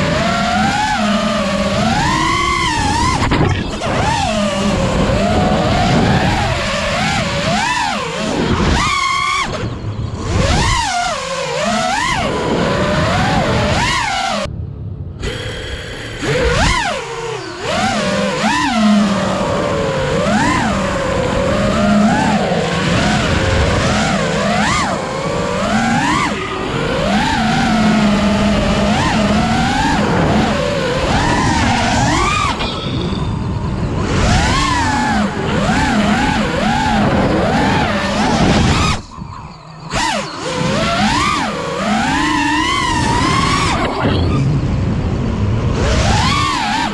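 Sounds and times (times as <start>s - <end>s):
quadcopter motors whining: 0.0s - 14.5s, 15.2s - 46.9s.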